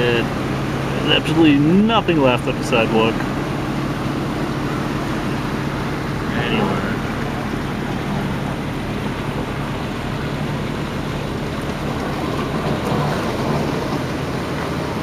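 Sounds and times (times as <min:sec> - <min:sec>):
car engine hum: 0:00.0 - 0:15.0
water splashing against car: 0:00.0 - 0:15.0.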